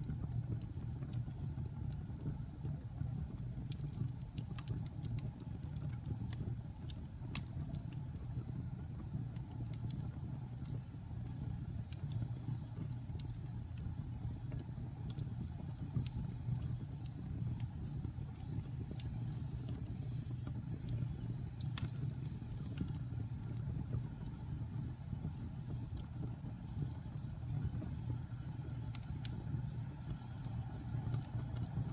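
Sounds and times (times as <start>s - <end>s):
fire crackling and popping: 0.0s - 31.9s
fire rumbling: 0.0s - 31.9s.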